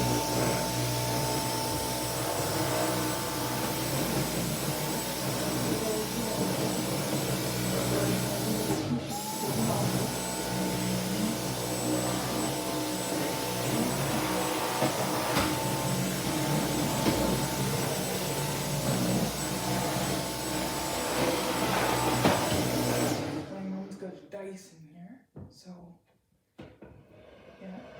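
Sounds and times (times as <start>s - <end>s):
vacuum cleaner running: 0.0s - 23.9s.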